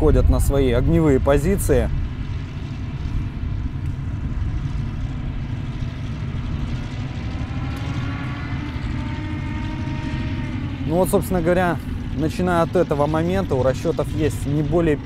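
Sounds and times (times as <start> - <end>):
heavy truck engines running: 0.0 - 15.0
rising engine whine: 0.0 - 15.0.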